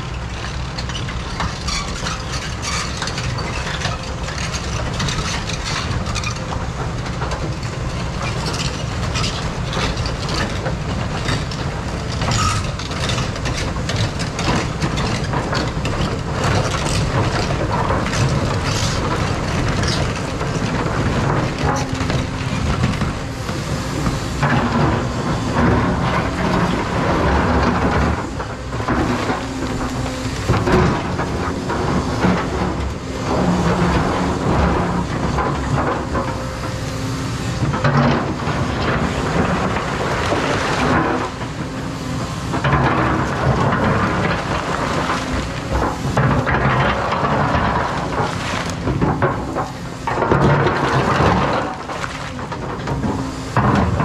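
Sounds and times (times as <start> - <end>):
excavator diesel engine: 0.0 - 54.0
rock and steel scraping: 0.0 - 54.0.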